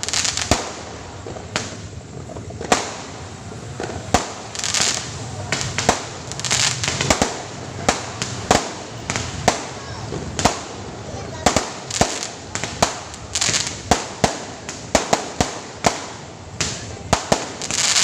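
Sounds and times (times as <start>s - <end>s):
fireworks bangs: 0.0s - 18.0s
fireworks crackling and hissing: 0.0s - 18.0s.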